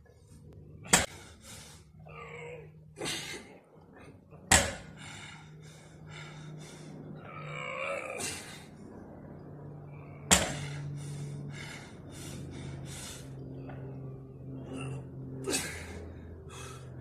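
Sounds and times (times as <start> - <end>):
steady low hum: 0.0 - 17.0
person breathing hard: 0.2 - 2.1, 2.7 - 7.5, 8.2 - 17.0.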